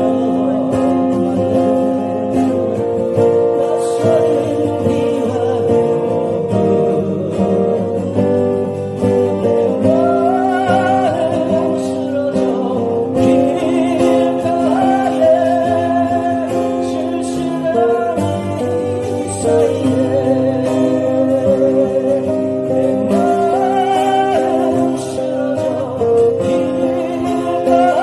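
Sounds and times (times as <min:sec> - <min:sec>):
acoustic guitars playing: 0:00.0 - 0:28.0.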